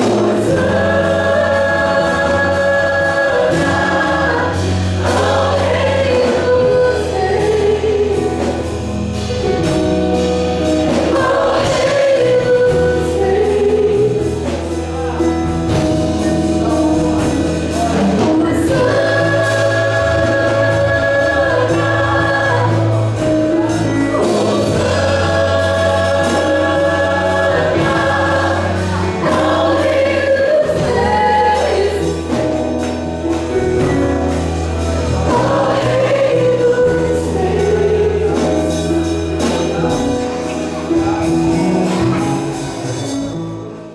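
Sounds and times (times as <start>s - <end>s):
choir singing gospel music: 0.0s - 43.9s
steady bass: 0.0s - 43.9s.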